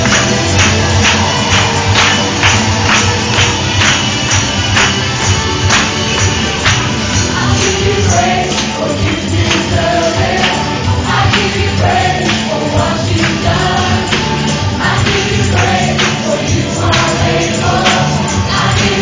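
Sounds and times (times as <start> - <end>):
amplified gospel music: 0.0 - 19.0
congregation singing: 0.0 - 19.0.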